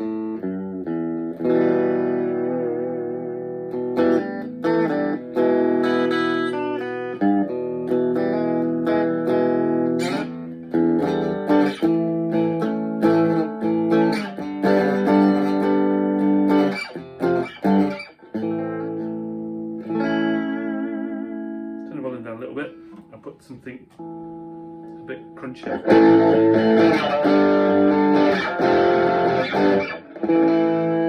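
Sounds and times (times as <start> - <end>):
clean electric guitar chords: 0.0 - 23.3, 23.9 - 31.0.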